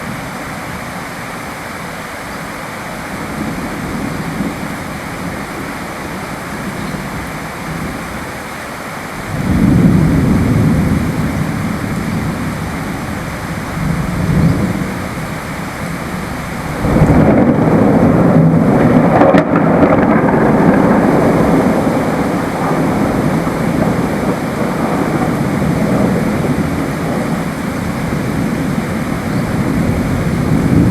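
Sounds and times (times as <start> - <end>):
steady rain: 0.0 - 30.9
thunder rumbling: 3.0 - 8.4, 9.2 - 30.9.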